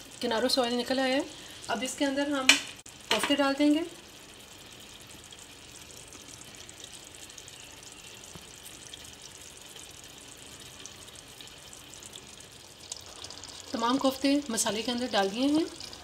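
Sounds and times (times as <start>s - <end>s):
sauce bubbling and sizzling in oil: 0.0s - 16.0s.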